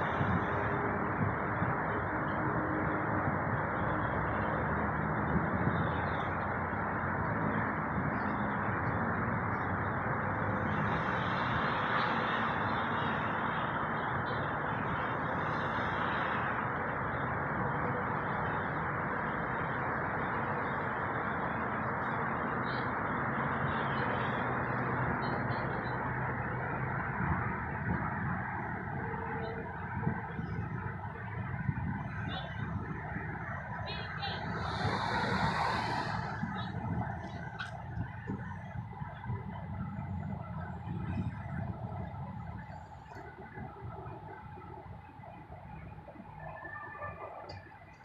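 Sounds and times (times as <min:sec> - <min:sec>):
airliner engines rumbling: 0:00.0 - 0:48.0.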